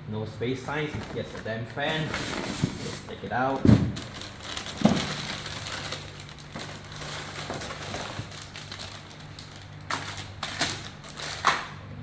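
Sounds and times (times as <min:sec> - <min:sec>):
steady low hum: 0:00.0 - 0:12.0
packaging rustling and crinkling: 0:00.7 - 0:11.7.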